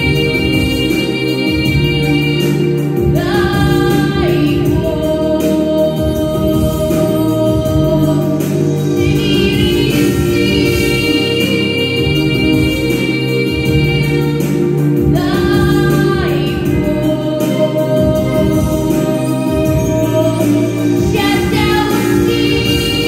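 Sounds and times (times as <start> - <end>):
girl singing into microphone: 0.0 - 23.0
instrumental accompaniment: 0.0 - 23.0.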